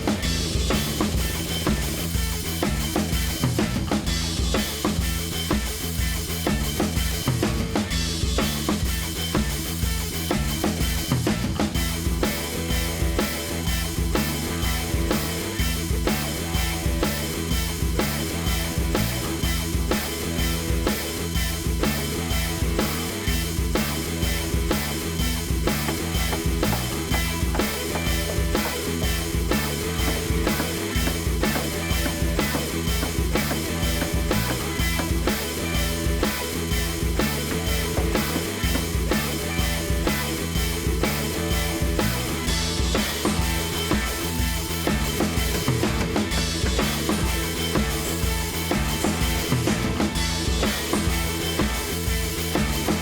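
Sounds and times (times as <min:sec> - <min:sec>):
drum beat and bass music: 0:00.0 - 0:53.0.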